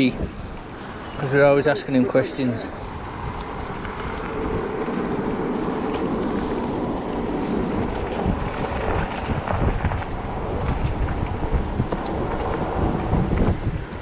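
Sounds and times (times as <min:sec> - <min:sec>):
bike tyres rolling on tarmac: 0:00.0 - 0:01.7, 0:02.7 - 0:14.0
wind on microphone: 0:00.0 - 0:14.0.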